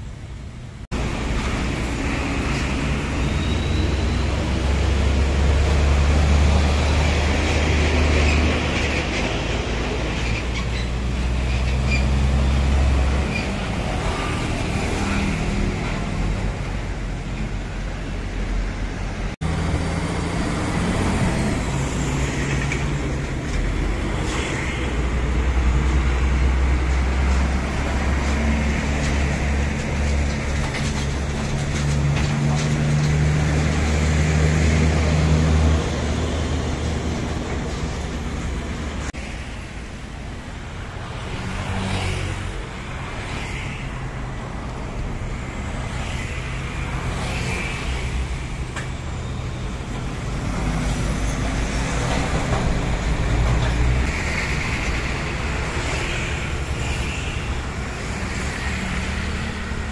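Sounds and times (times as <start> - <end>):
heavy diesel trucks passing: 0.0 - 59.9.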